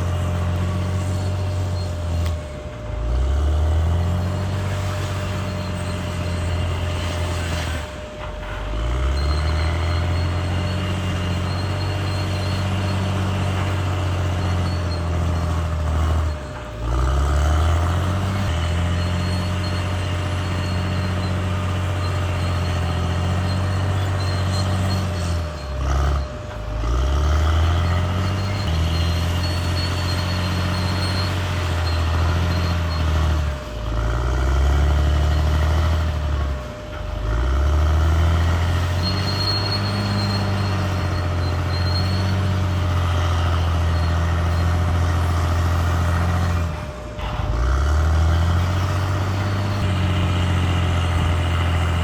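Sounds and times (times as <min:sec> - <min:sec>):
bulldozer diesel engine running: 0:00.0 - 0:52.0
steady machine whine: 0:00.0 - 0:52.0.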